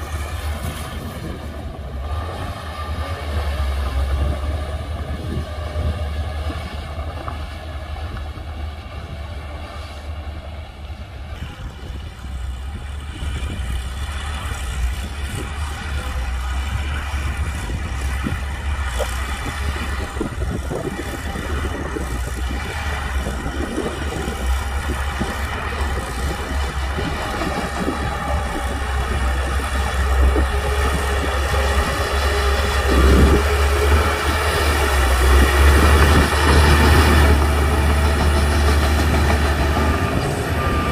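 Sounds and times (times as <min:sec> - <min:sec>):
bulldozer diesel engine rumbling: 0:00.0 - 0:40.9.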